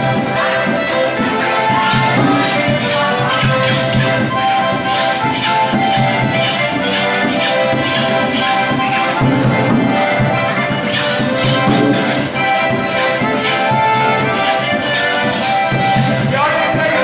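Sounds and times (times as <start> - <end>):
button accordions playing lively tune: 0.0 - 17.0
scraped rhythm: 0.0 - 17.0.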